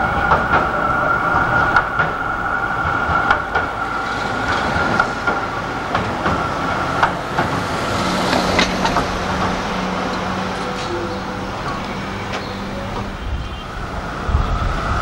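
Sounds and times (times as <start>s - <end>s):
tram wheels clicking over rails: 0.0s - 15.0s.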